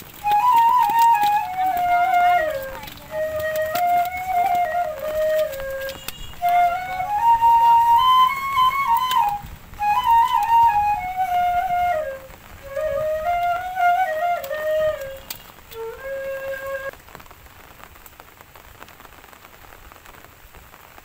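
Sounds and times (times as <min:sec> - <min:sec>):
solo flute melody: 0:00.0 - 0:17.0.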